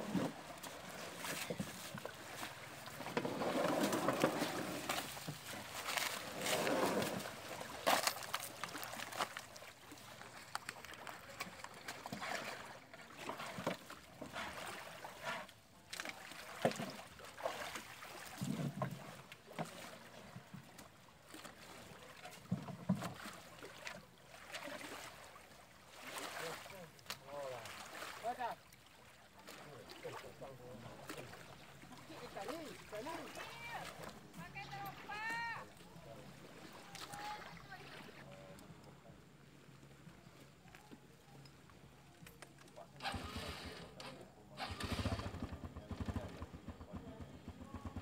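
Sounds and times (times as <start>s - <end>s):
shallow water splashing: 0.0s - 43.9s.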